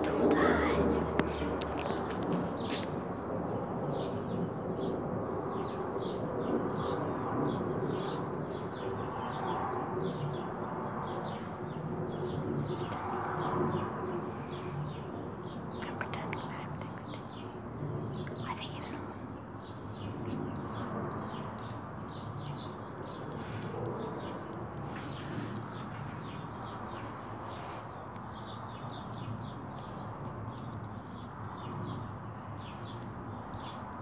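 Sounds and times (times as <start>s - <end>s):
low outdoor background noise: 0.0s - 34.0s
small birds chirping: 3.8s - 34.0s.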